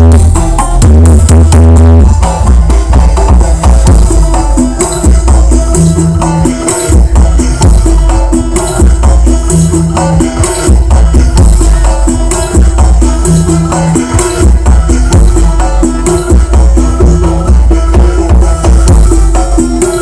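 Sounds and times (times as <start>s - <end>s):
loud dance music with booming bass: 0.0s - 20.0s.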